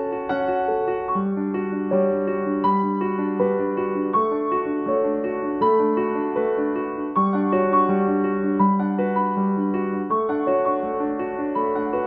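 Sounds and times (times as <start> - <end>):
piano background music: 0.0 - 12.0.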